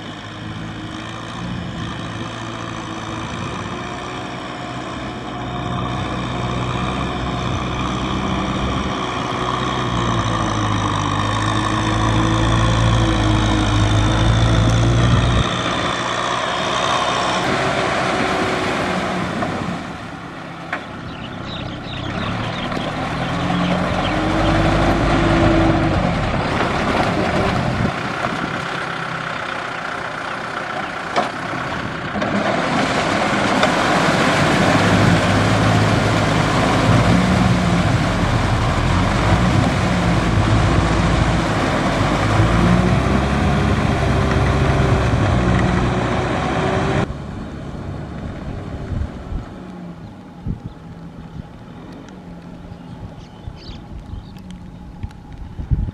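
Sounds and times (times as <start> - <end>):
rotary tiller churning wet mud: 0.0 - 47.1
tractor diesel engine under load: 0.0 - 55.9.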